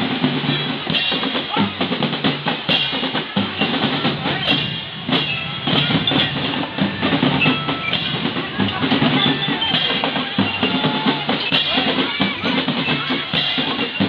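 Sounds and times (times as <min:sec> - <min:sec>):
bass drums: 0:00.0 - 0:14.0
snare drums: 0:00.0 - 0:14.0
wind and bell instruments: 0:00.0 - 0:14.0.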